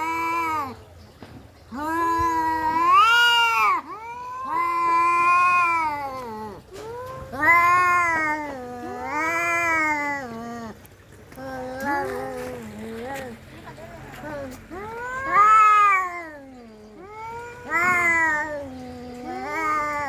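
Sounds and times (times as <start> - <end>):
cats yowling: 0.0 - 0.8, 1.7 - 10.8, 11.4 - 20.0.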